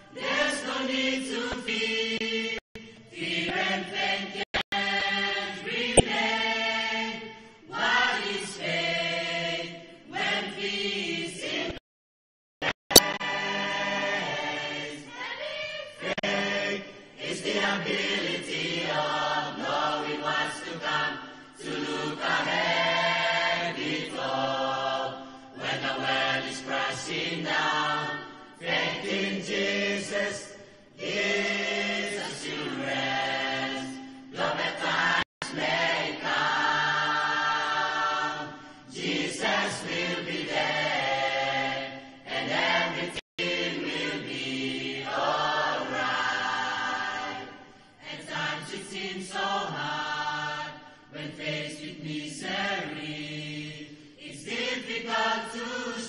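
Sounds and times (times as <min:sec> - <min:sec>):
mixed choir singing gospel: 0:00.0 - 0:11.8, 0:13.0 - 0:56.0.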